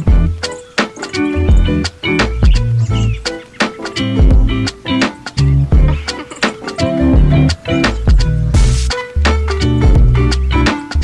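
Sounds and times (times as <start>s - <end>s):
background music with drums and bass: 0.0s - 11.0s.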